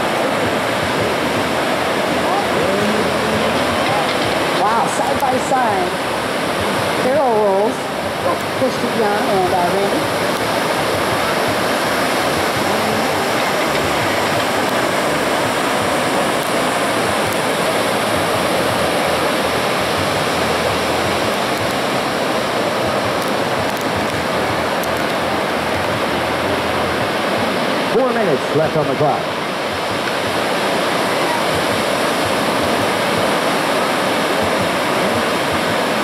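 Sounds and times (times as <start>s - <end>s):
ocean surf breaking: 0.0s - 36.0s.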